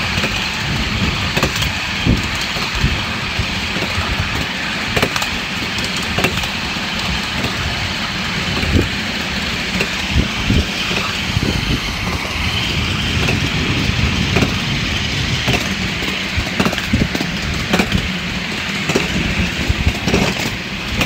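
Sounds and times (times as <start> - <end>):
miniature train rumbling on track: 0.0 - 21.0
wheels knocking on rails: 0.0 - 21.0.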